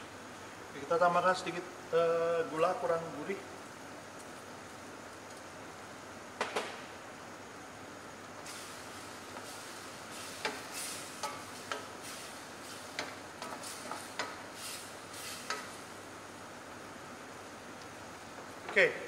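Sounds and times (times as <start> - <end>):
low sizzle: 0.0 - 19.0.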